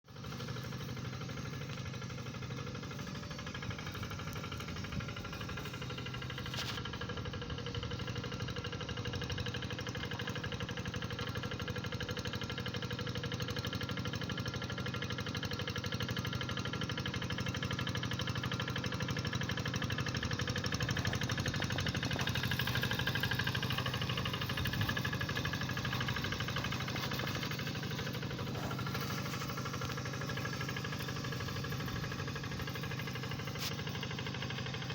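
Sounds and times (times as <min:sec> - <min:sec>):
tractor engine running: 0:00.1 - 0:34.9.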